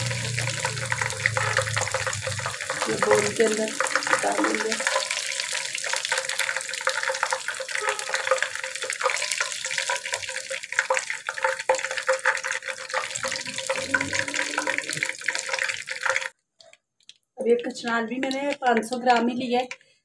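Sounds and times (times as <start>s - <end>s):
onions sizzling in hot oil: 0.0s - 16.3s.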